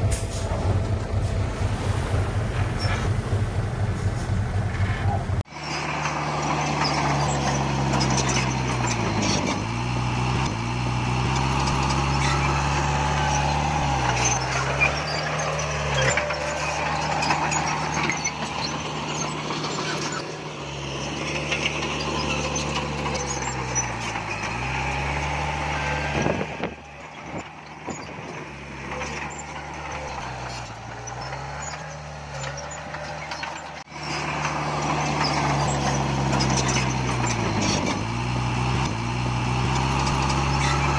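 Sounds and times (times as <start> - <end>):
diesel engine running hard: 0.0 - 40.9.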